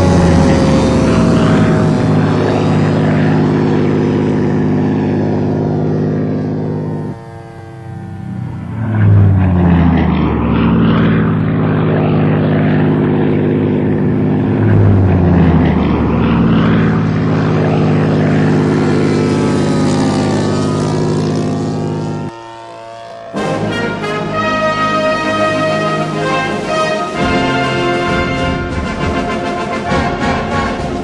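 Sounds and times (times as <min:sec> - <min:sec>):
model plane engine flying past: 0:00.0 - 0:31.0.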